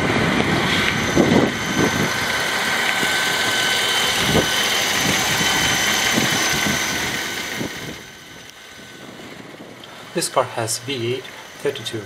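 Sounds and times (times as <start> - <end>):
car engine idling: 0.0 - 12.0
high-pitched engine whine: 0.0 - 12.0.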